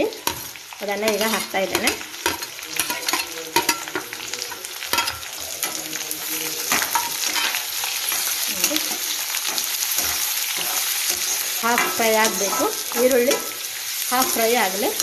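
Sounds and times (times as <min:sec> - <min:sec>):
onions sizzling in hot oil: 0:00.0 - 0:15.0
steel spoon scraping on steel: 0:00.2 - 0:14.8.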